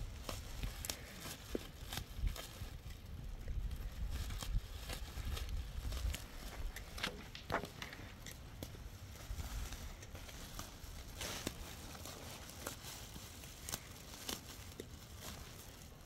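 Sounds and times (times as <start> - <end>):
plastic sack rustling and crinkling: 0.0 - 16.0.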